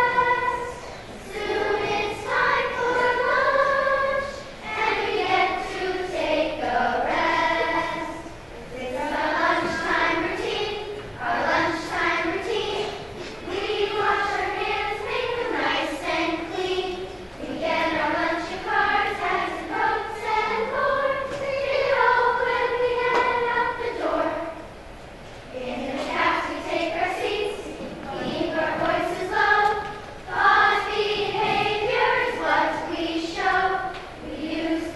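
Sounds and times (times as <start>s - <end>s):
children's choir singing: 0.0s - 34.9s.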